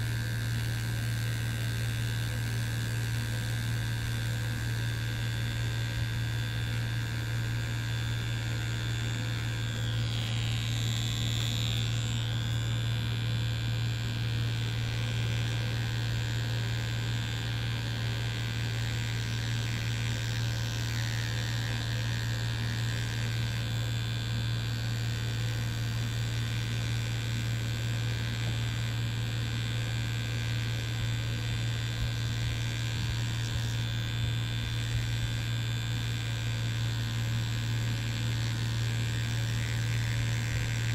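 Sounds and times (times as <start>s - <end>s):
tattoo machine buzzing: 0.0s - 40.9s.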